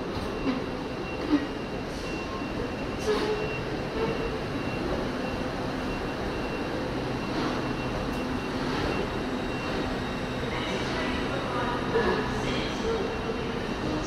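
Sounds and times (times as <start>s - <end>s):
train rumble and hum: 0.0s - 14.0s.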